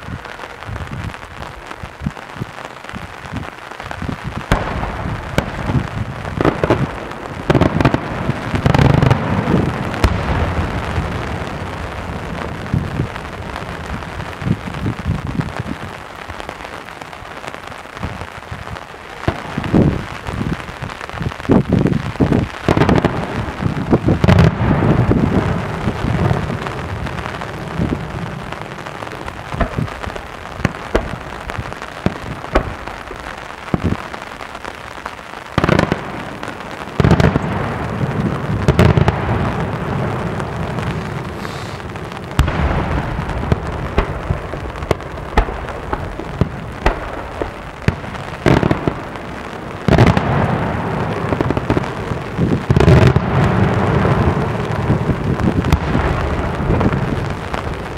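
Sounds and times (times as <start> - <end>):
fireworks booms: 0.0 - 57.9
fireworks crackling: 0.0 - 57.9.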